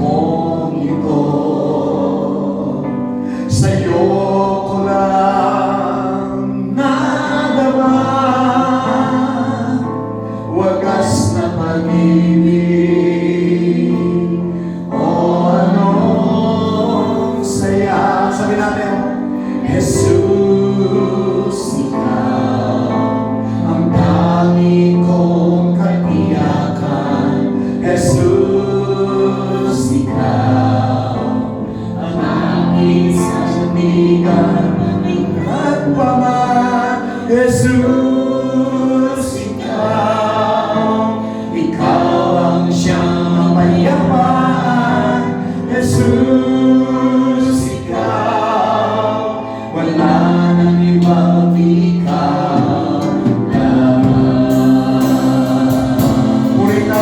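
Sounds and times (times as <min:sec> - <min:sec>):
group singing worship song: 0:00.0 - 0:57.0
instrumental backing: 0:00.0 - 0:57.0.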